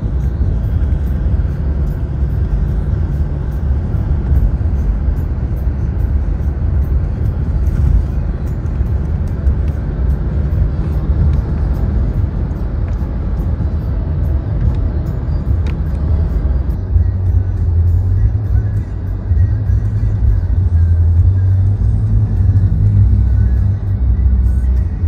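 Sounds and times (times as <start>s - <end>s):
faint background music: 0.0s - 25.0s
vehicle road and wind rumble: 0.0s - 25.0s.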